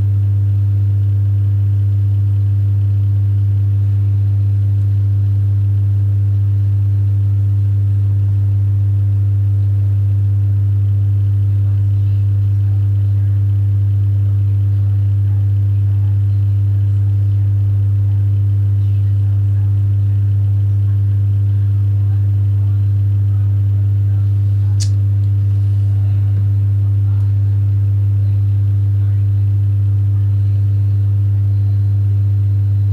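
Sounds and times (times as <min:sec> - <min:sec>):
low electrical hum: 0:00.0 - 0:32.9.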